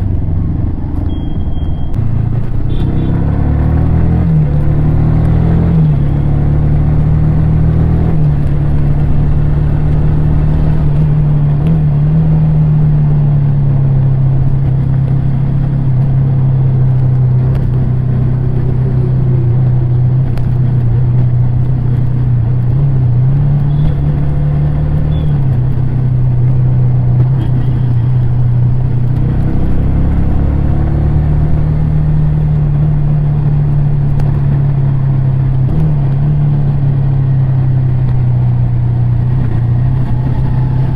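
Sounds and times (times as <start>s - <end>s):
motorcycle engine running: 0.0s - 3.1s, 4.4s - 40.9s
wind and road noise: 0.0s - 40.9s.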